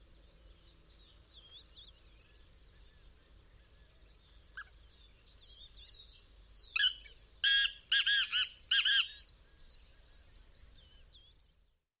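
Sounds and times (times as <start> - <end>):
faint small bird chirps: 0.3 - 11.6.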